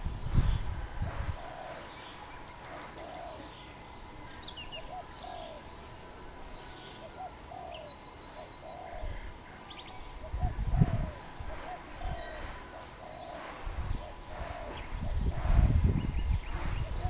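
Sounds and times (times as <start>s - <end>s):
small birds chirping: 0.0s - 17.0s
dove cooing: 1.0s - 5.8s, 7.0s - 17.0s.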